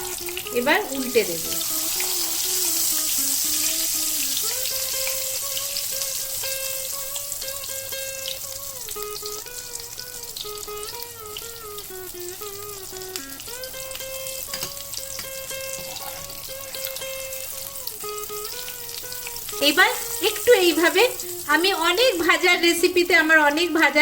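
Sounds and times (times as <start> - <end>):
bread sizzling in hot oil: 0.0 - 24.0
instrumental melody: 0.0 - 24.0.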